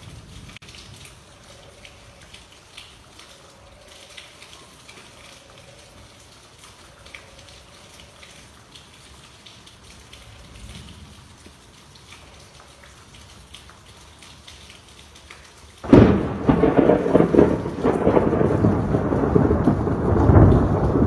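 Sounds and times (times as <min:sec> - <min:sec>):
rain hissing: 0:00.0 - 0:21.0
raindrop ticks: 0:00.0 - 0:21.0.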